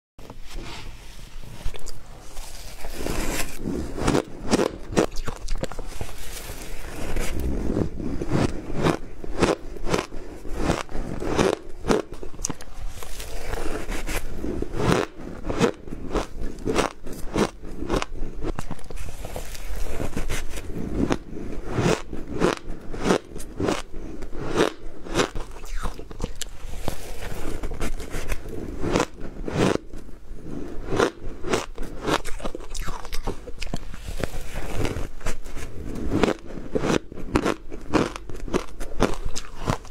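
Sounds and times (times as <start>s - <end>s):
chewing crunchy ice: 1.7s - 29.9s, 30.9s - 35.1s, 36.0s - 39.9s.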